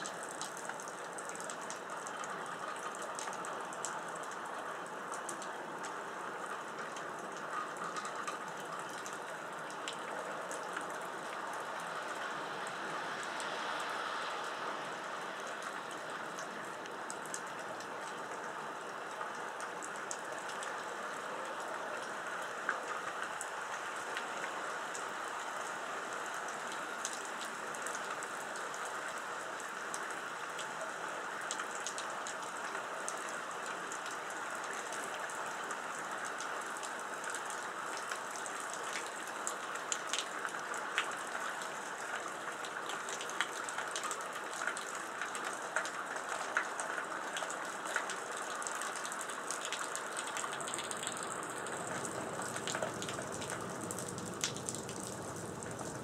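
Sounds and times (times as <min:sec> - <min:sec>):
raindrops ticking on surfaces: 0:00.0 - 0:56.0
steady rain falling: 0:00.0 - 0:56.0.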